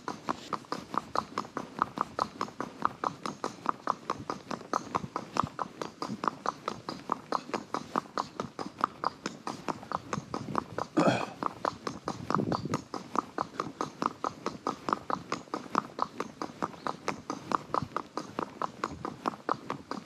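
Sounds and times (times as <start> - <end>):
horse hooves clip-clopping: 0.0 - 20.0.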